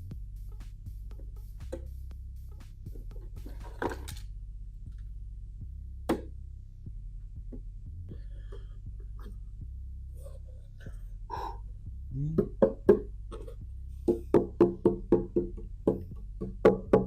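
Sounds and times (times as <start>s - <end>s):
low throbbing hum: 0.0s - 17.0s.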